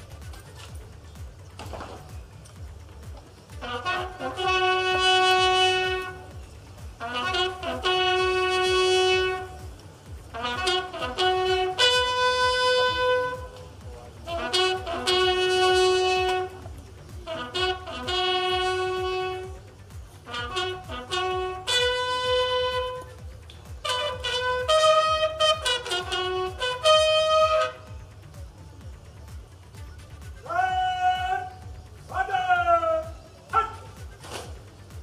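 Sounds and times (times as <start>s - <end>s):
bugles playing slow call: 0.0s - 35.0s.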